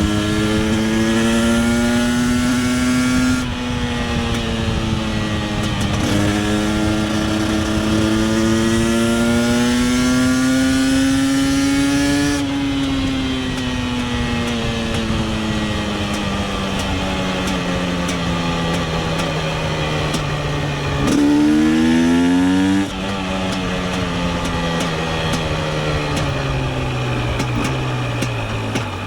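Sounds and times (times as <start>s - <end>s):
two-stroke engine revving: 0.0s - 29.0s.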